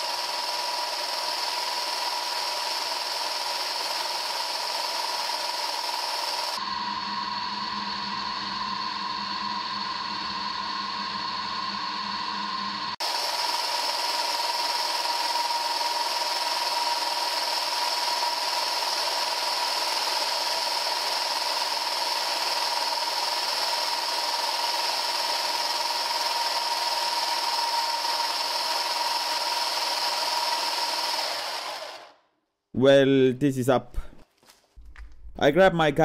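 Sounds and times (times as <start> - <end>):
motors whining in gearbox: 0.0 - 32.2.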